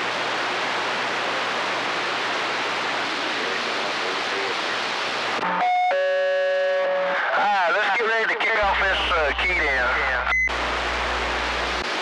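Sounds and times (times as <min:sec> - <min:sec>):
radio static hiss: 0:00.0 - 0:06.0, 0:06.7 - 0:12.0.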